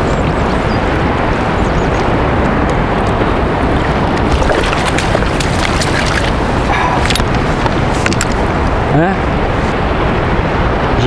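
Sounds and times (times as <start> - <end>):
choppy sea water: 0.0 - 11.0
wind buffeting microphone: 0.0 - 11.0.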